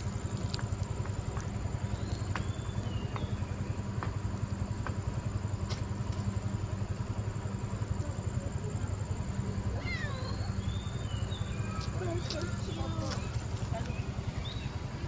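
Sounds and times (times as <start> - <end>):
low pulsing mechanical hum: 0.0 - 15.0.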